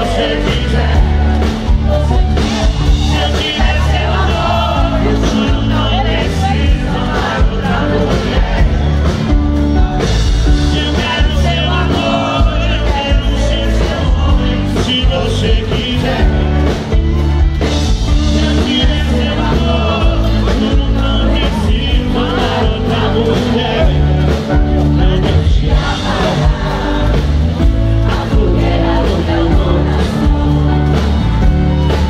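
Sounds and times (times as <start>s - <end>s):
man singing: 0.0s - 9.1s, 10.4s - 16.9s, 17.9s - 31.2s
live band playing: 0.0s - 32.0s.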